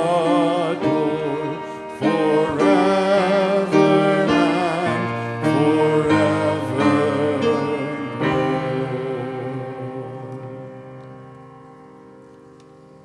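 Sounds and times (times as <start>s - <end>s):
choir singing a hymn with instruments: 0.0s - 11.8s.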